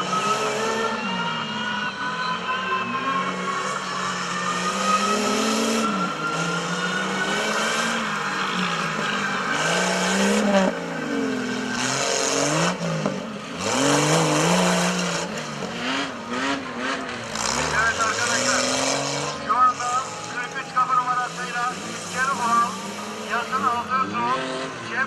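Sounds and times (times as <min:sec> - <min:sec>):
engine revving: 0:00.0 - 0:25.0.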